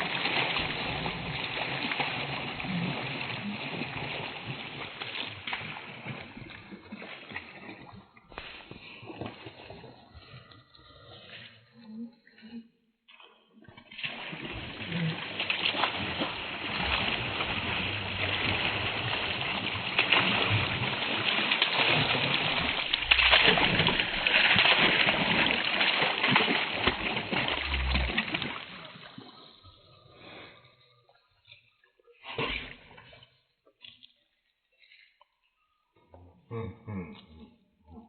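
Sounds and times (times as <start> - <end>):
water splashing and sloshing: 0.0 - 35.3.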